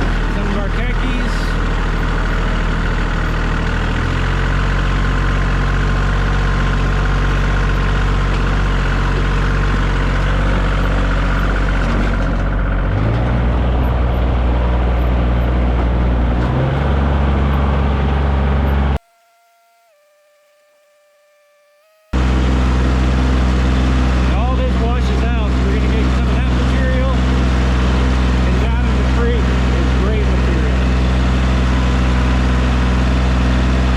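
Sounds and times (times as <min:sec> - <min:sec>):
tractor engine running: 0:00.0 - 0:19.0, 0:22.2 - 0:33.9.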